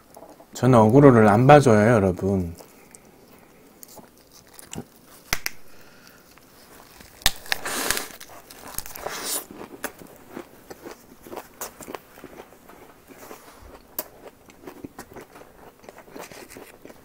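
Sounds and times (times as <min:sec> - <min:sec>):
wet chewing and crunching: 0:02.2 - 0:17.0.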